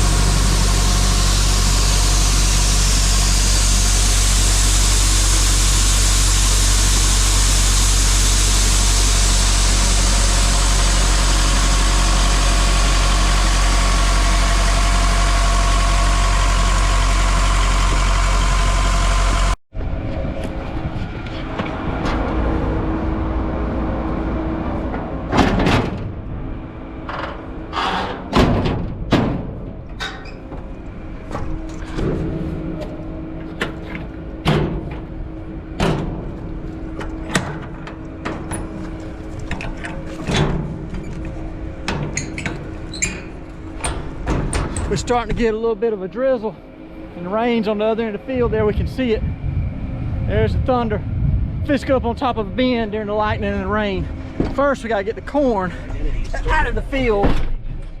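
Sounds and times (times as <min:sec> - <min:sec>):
farm machine engine droning: 0:00.0 - 0:28.4, 0:29.5 - 0:58.0.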